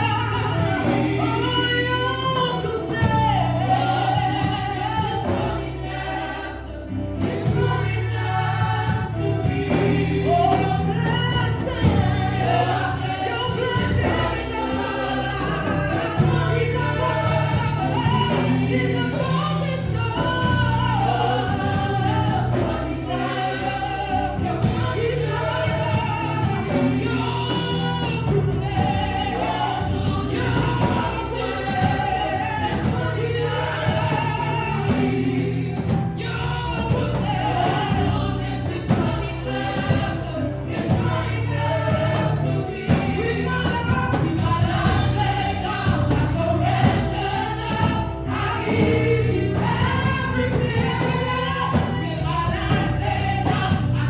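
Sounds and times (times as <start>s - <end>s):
choir and congregation singing: 0.0s - 54.0s
live band playing: 0.0s - 54.0s.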